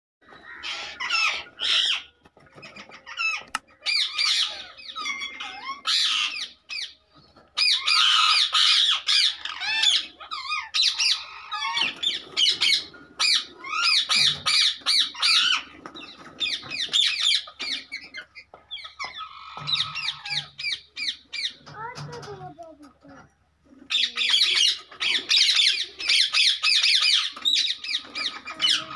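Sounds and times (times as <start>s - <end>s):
parakeets squawking: 0.3s - 22.4s, 23.8s - 28.9s.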